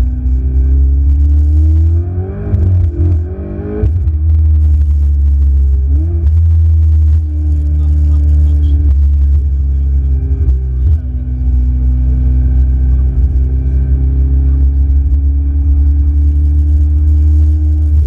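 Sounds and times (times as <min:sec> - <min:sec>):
car engine drone: 0:00.0 - 0:18.0.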